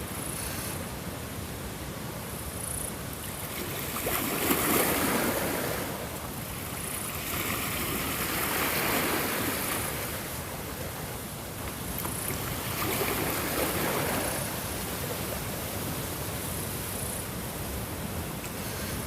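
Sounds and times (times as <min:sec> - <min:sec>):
ocean waves washing onto shore: 0:00.0 - 0:19.0.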